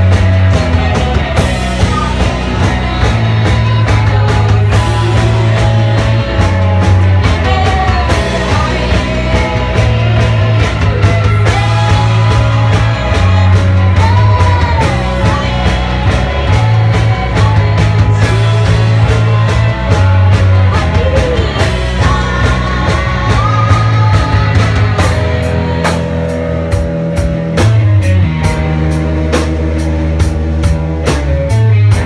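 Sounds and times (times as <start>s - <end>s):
person singing: 0.0s - 26.2s
live rock band playing: 0.0s - 32.0s.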